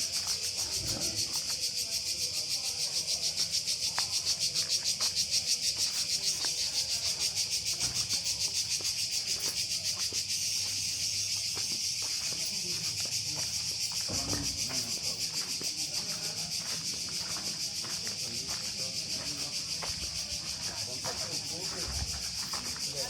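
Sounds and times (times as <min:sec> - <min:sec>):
cicadas buzzing: 0:00.0 - 0:23.0.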